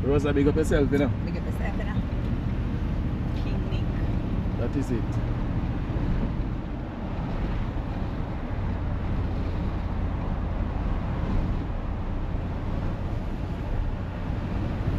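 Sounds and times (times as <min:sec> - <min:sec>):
vehicle engine and road rumble: 0:00.0 - 0:14.9.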